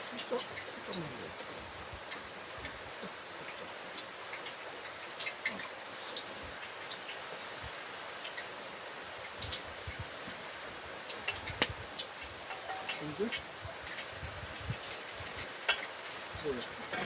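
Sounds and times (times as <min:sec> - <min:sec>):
insects chorus: 0:00.0 - 0:17.0
small crackles: 0:00.0 - 0:17.0.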